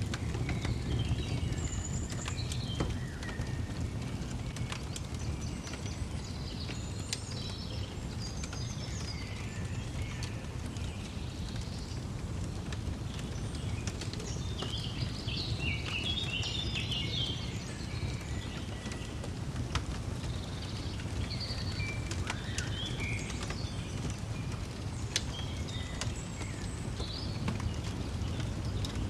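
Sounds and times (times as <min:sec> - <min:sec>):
small birds chirping: 0:00.0 - 0:29.0
wood fire crackling: 0:00.0 - 0:29.0.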